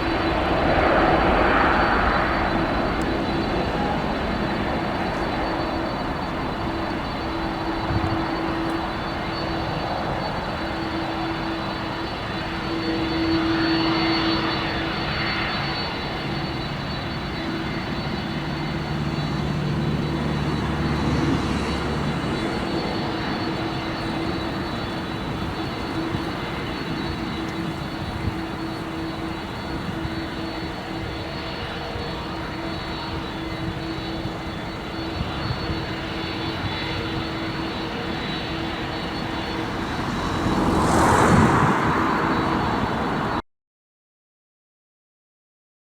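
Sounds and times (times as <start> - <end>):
jet engines running: 0.0 - 43.4.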